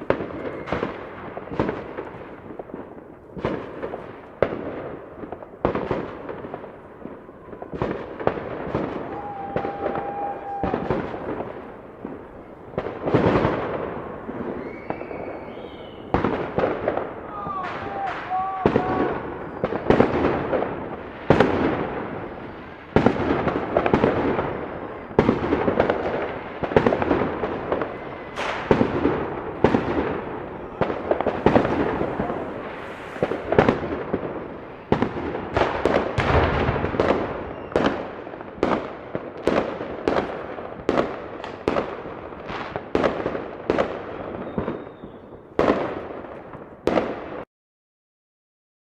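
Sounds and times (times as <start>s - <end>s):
explosive bangs with crackling echo: 0.0s - 47.4s.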